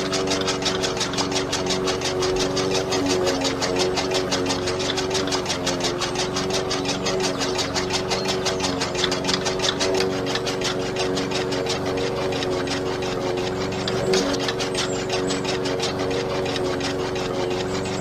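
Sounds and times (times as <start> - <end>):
blade clattering chopping leaves: 0.0 - 18.0
small electric motor whine: 0.0 - 18.0.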